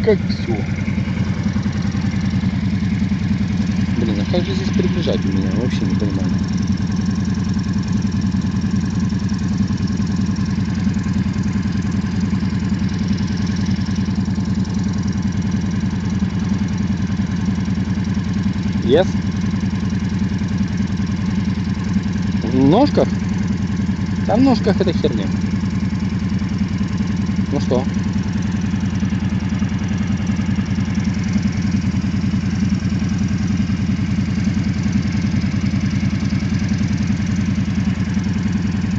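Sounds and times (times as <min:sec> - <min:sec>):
quad bike engine idling: 0:00.0 - 0:38.9.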